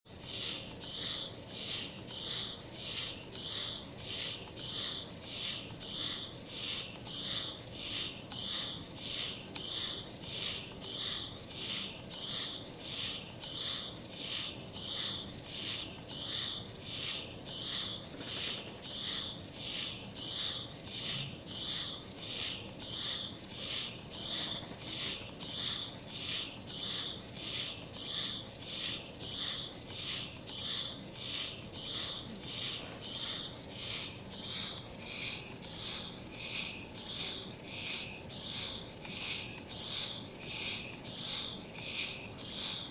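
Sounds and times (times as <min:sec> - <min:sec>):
steam engine hissing puffs: 0:00.1 - 0:42.9.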